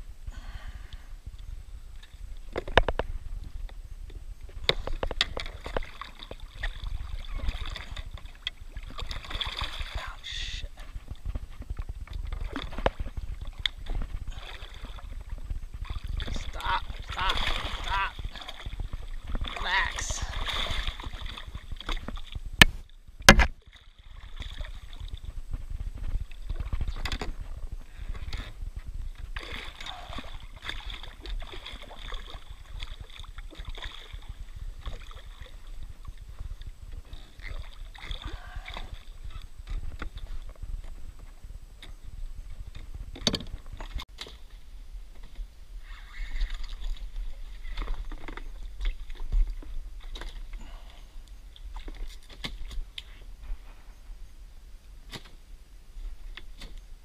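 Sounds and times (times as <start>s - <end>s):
water splashing and sloshing: 0.4s - 57.0s.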